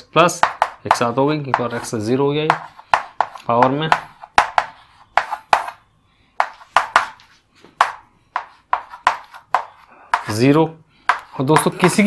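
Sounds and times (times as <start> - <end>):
chalk tapping and scraping on chalkboard: 0.3 - 5.8, 6.4 - 12.0.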